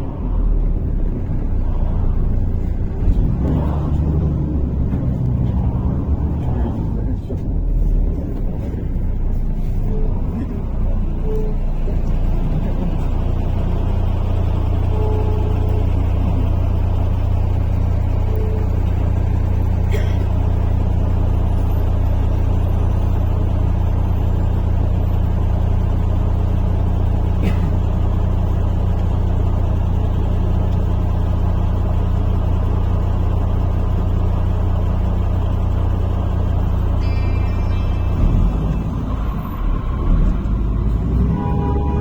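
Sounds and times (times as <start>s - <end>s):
bus engine drone: 0.0s - 42.0s
road and tyre noise: 0.0s - 42.0s.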